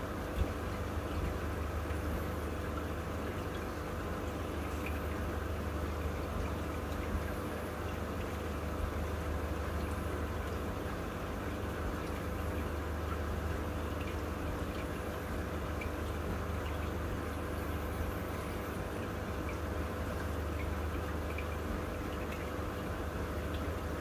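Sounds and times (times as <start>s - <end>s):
faint water drips: 0.0s - 24.0s
low pump hum: 0.0s - 24.0s
trickling water: 0.0s - 24.0s.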